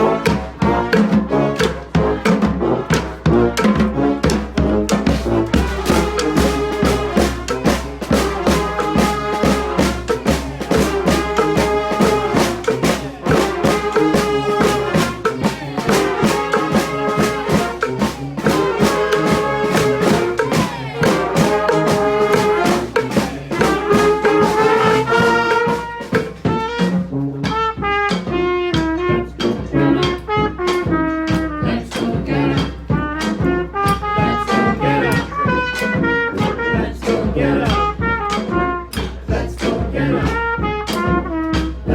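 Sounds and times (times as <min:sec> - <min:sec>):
steady drum beat: 0:00.0 - 0:41.9
trumpets and trombones: 0:00.0 - 0:41.9.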